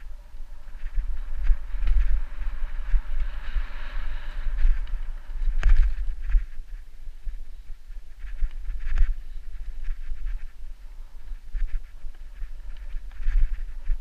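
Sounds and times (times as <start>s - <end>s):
bike tyre and frame rattle: 0.0s - 14.0s
wind rumbling on microphone: 0.0s - 14.0s.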